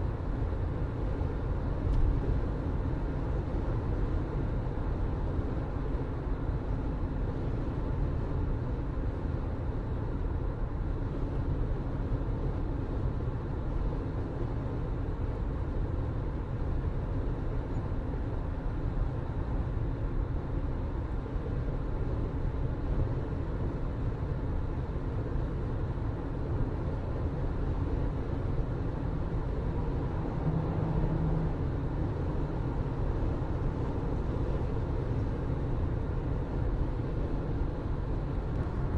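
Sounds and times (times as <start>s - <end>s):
moving vehicle rumble: 0.0s - 38.9s.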